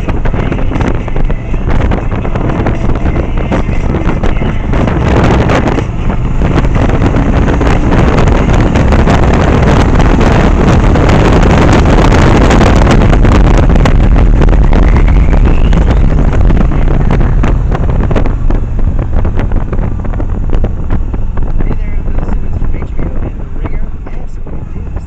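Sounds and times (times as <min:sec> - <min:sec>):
motorcycle engine droning: 0:00.0 - 0:25.0
wind buffeting microphone: 0:00.0 - 0:25.0.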